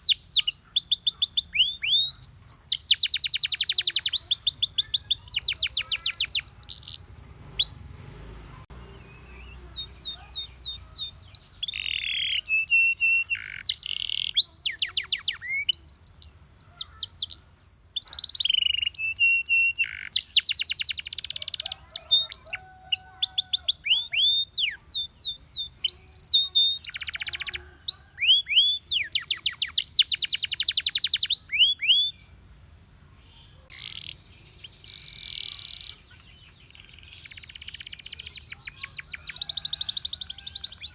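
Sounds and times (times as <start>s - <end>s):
canary singing: 0.0s - 32.6s, 33.2s - 40.9s.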